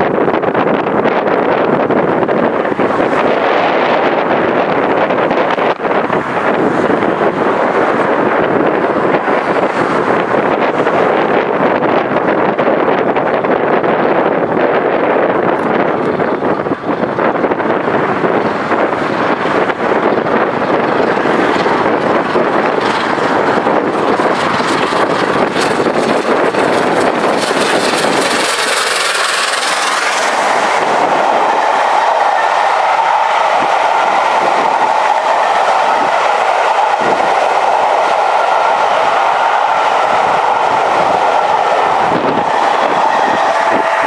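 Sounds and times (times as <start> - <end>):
rail and wheel hum: 0.0 - 44.0
steam locomotive roaring past: 0.0 - 44.0
wheels clicking over track: 0.0 - 44.0.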